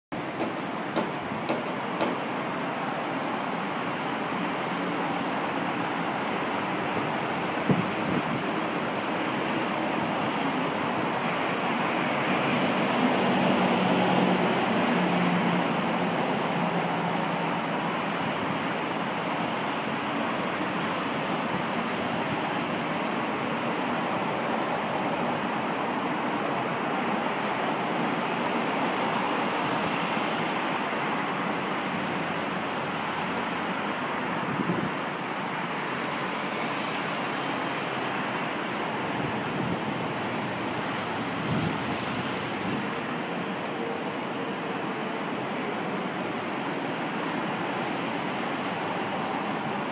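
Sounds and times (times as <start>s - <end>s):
road traffic: 0.0s - 49.9s.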